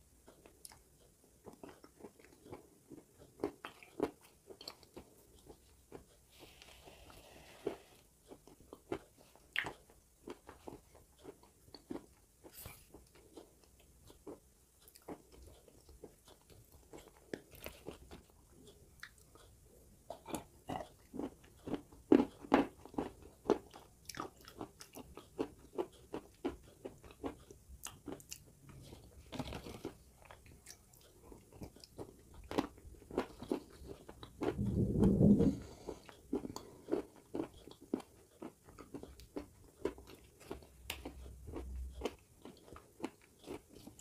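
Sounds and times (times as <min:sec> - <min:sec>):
chewing crunchy clay: 0:00.2 - 0:06.2, 0:08.3 - 0:44.0.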